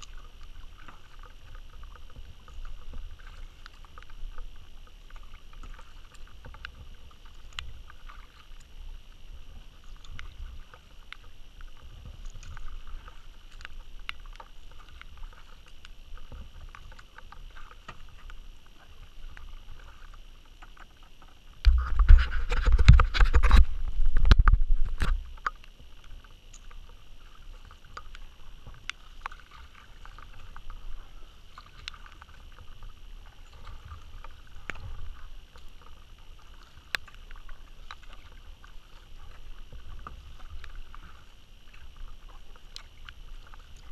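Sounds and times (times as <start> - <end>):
kayak paddle strokes in water: 0.0 - 43.9.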